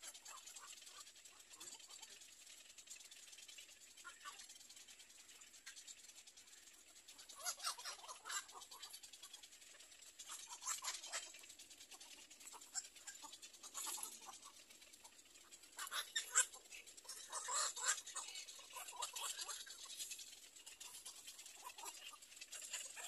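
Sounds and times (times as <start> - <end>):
egret chicks chittering: 0.0 - 2.2, 2.9 - 23.0.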